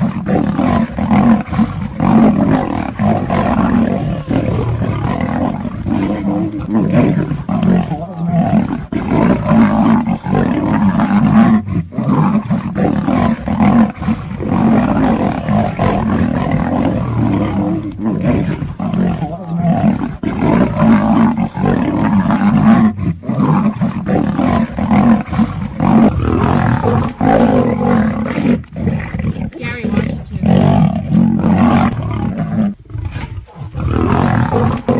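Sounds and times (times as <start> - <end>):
big cats roaring: 0.0 - 34.9.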